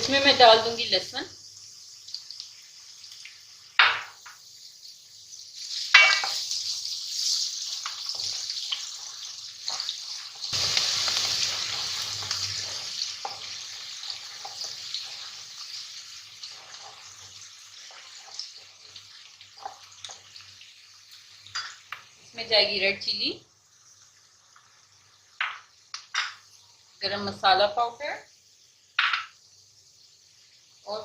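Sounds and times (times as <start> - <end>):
garlic and onion sizzling in oil: 0.0 - 31.0.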